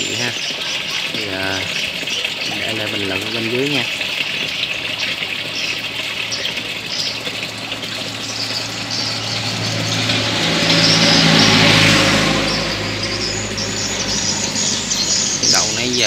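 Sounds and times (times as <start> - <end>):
pump humming: 0.0 - 16.0
water rushing through pipe: 0.0 - 16.0.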